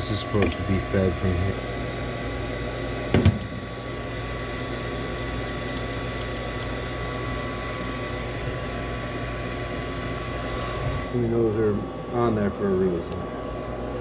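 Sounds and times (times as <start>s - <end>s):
motor humming and whining: 0.0s - 14.0s.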